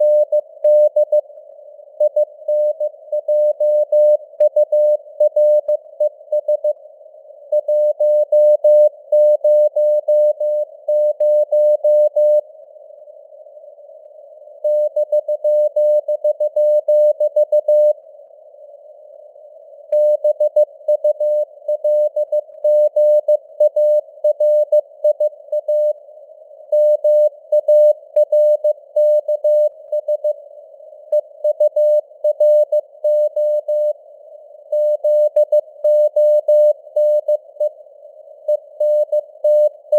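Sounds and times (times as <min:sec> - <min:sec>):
faint radio hiss: 0:00.0 - 0:07.6, 0:11.9 - 0:14.8, 0:15.4 - 0:39.9.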